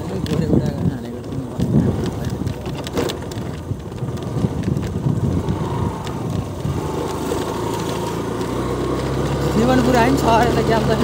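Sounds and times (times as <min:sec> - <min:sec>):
low engine hum: 0:00.0 - 0:11.0
wind rumbling on microphone: 0:00.0 - 0:11.0.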